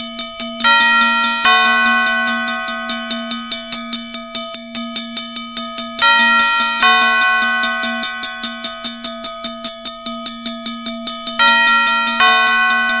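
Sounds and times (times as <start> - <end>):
bell struck rapidly: 0.0 - 13.0
second ringing bell: 0.4 - 13.0.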